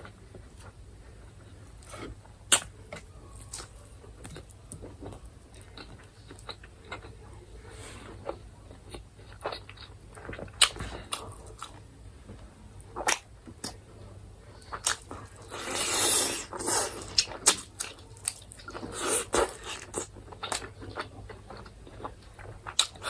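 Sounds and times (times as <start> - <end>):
person chewing food: 0.0 - 7.2, 8.2 - 11.8, 13.0 - 13.8, 14.6 - 23.0.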